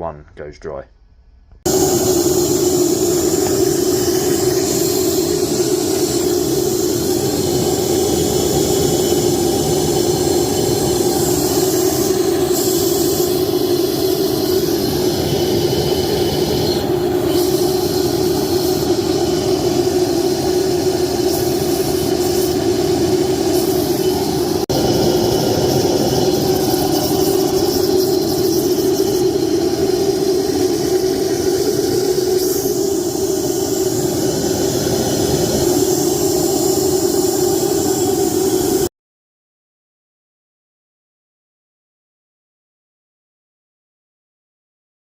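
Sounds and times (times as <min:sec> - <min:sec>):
low drone: 0:01.7 - 0:38.9
rushing steam and water: 0:01.7 - 0:38.9.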